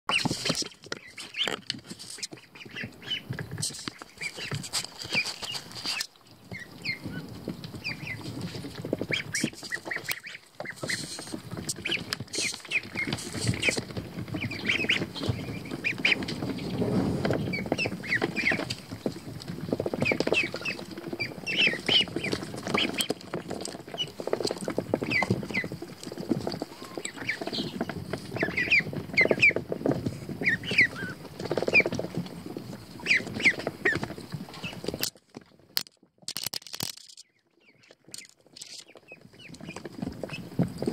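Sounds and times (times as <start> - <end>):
ducklings peeping: 0.1 - 35.1, 36.4 - 40.9
rustling of wood shavings: 0.1 - 40.9.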